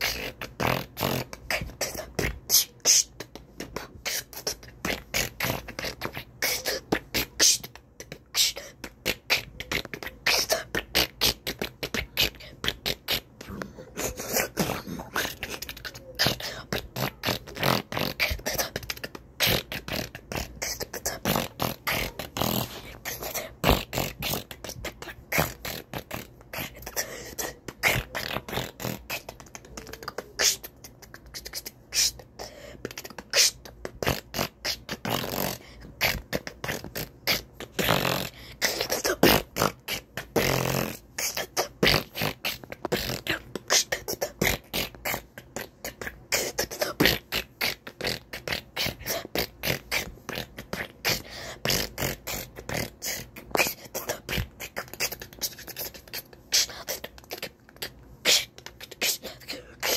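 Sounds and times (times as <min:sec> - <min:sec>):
boy beatboxing: 0:00.0 - 0:59.9.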